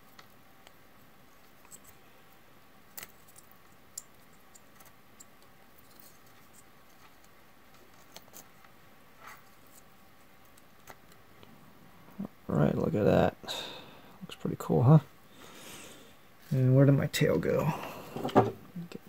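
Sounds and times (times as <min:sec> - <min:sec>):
faint room hiss: 0:00.0 - 0:19.0.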